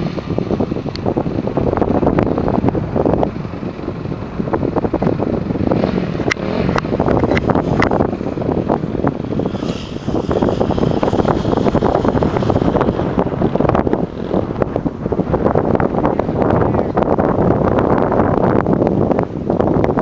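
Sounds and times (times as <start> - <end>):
dirt bike engine: 0.0 - 20.0
wind buffeting microphone: 0.0 - 20.0.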